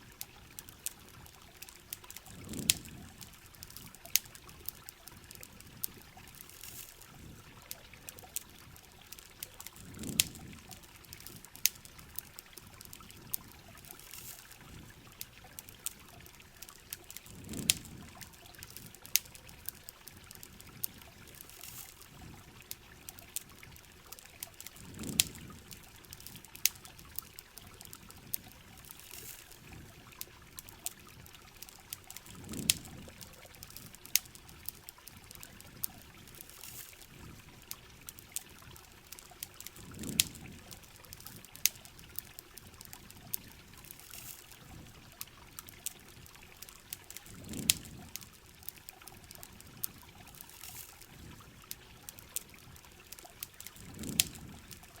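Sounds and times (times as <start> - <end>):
campfire crackling and popping: 0.0 - 55.0
low water gurgle: 0.0 - 55.0
steady rain: 0.0 - 55.0
water trickling: 0.0 - 55.0.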